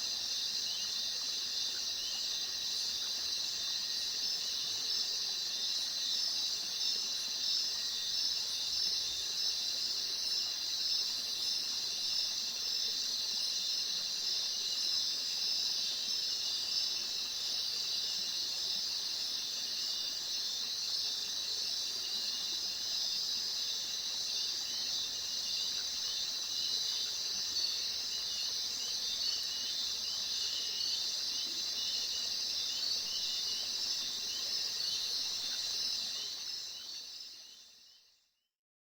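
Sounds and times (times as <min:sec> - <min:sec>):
insects chirping: 0:00.0 - 0:38.1.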